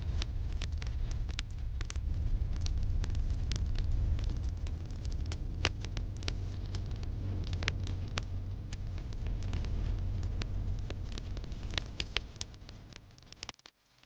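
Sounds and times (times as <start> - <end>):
low steady rumble: 0.0 - 13.4
wood fire crackling and popping: 0.0 - 14.0.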